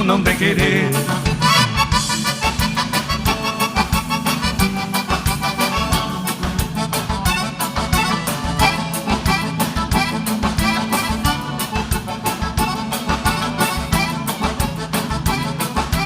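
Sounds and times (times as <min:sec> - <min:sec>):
accordion: 0:00.0 - 0:16.0
bass: 0:00.0 - 0:16.0
drums dance beat: 0:00.0 - 0:16.0.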